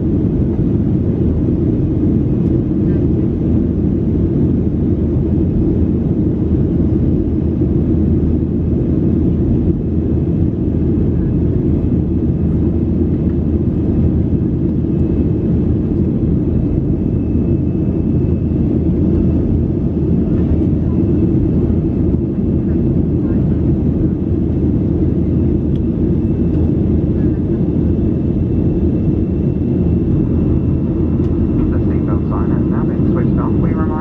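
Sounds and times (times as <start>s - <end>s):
airplane cabin drone: 0.0s - 34.0s.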